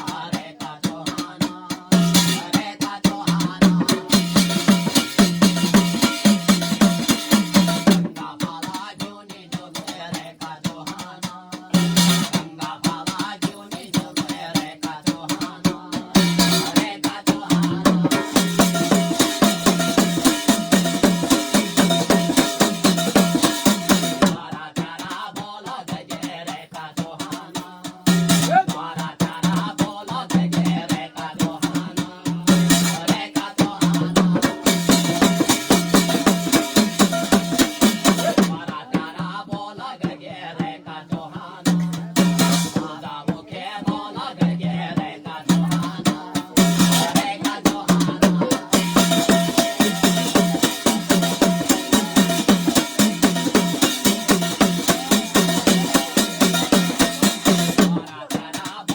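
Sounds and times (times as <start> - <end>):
fast steady drumming: 0.0 - 58.9
person singing: 7.9 - 39.9, 40.5 - 58.9.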